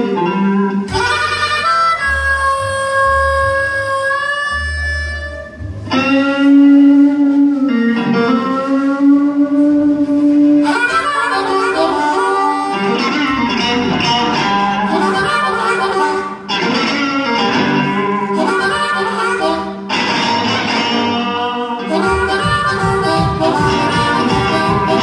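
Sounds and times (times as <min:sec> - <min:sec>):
electric guitar: 0:00.0 - 0:25.0
harmonica: 0:00.0 - 0:25.0.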